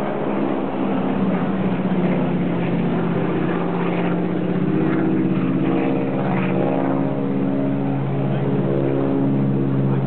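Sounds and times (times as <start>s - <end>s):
propeller airplane engine droning: 0.0s - 10.0s.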